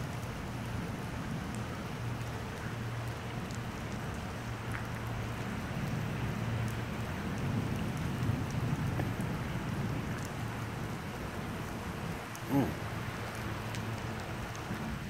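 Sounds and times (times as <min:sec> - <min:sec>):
steady rain: 0:00.0 - 0:15.0
raindrop ticks: 0:00.1 - 0:15.0.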